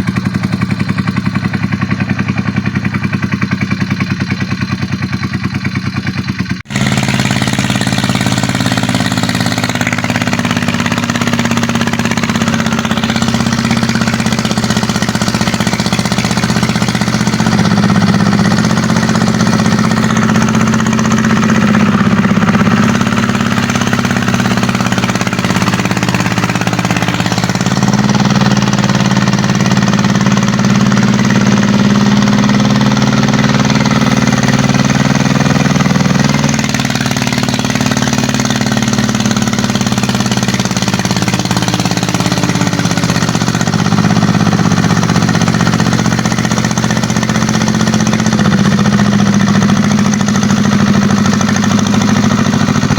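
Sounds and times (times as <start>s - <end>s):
tractor diesel engine clattering: 0.0s - 52.9s.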